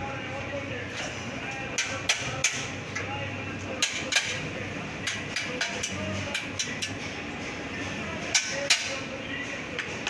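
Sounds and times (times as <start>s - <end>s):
workshop background noise: 0.0s - 10.0s.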